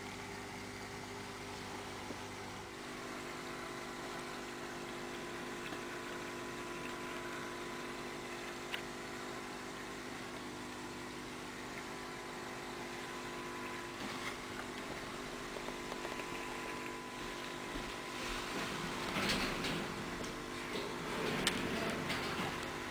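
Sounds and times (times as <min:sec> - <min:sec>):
aquarium filter pump humming: 0:00.0 - 0:22.9.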